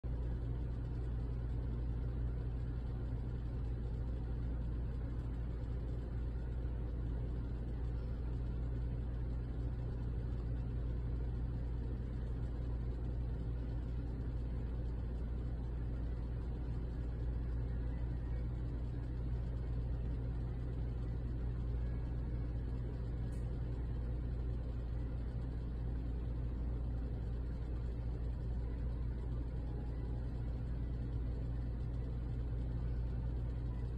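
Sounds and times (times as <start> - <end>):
low hum and rumble: 0.0 - 33.9.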